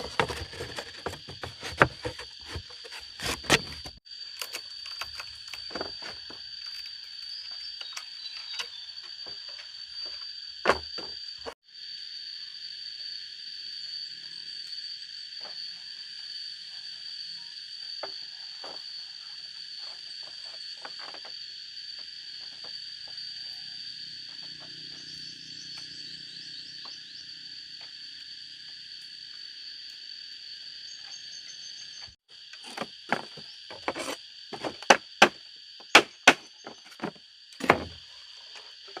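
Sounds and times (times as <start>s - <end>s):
insect chorus drone: 0.0s - 39.0s.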